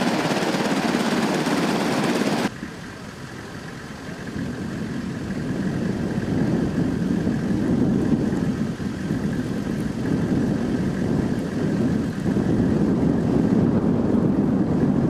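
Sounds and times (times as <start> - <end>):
distant helicopters rotor rumble: 0.0 - 15.0
helicopter rotor running: 0.0 - 15.0.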